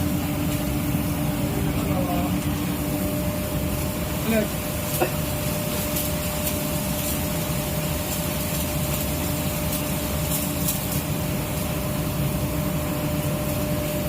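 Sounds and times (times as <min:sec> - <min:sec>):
machine humming: 0:00.0 - 0:14.0
thin steady whine: 0:00.0 - 0:14.0.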